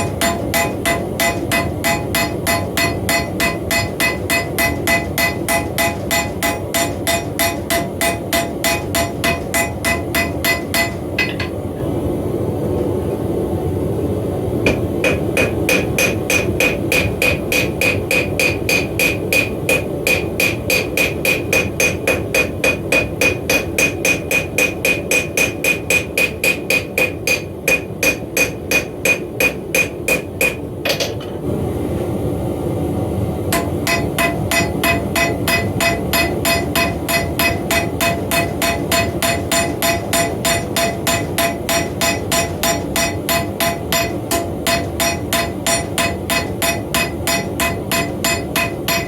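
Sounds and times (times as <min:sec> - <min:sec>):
hammer ringing on anvil: 0:00.0 - 0:11.5, 0:14.7 - 0:31.1, 0:33.5 - 0:49.0.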